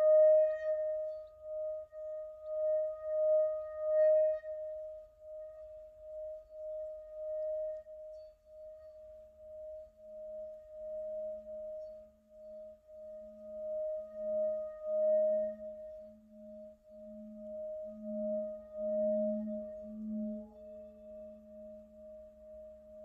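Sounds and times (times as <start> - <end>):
singing bowl ringing tone: 0.0 - 23.0.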